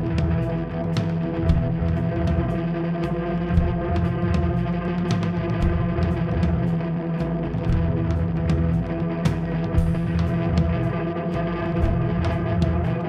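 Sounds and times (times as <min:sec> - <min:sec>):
drum kit: 0:00.0 - 0:13.0
electric bass: 0:00.0 - 0:13.0
electric guitar sustained notes: 0:00.0 - 0:13.0.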